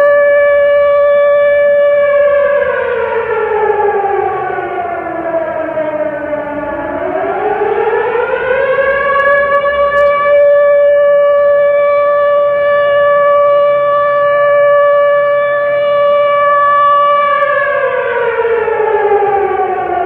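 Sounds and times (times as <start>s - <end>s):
factory siren wailing: 0.0s - 20.0s.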